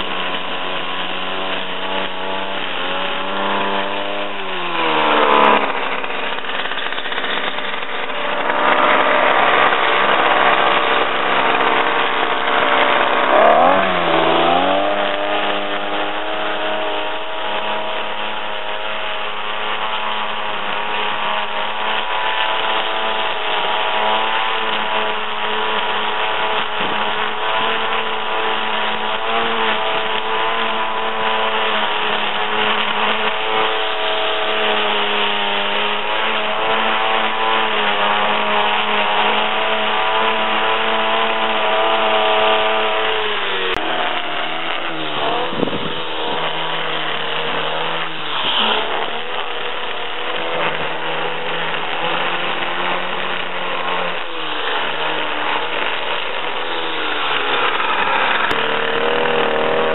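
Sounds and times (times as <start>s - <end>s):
string trimmer cutting grass: 0.0s - 59.9s.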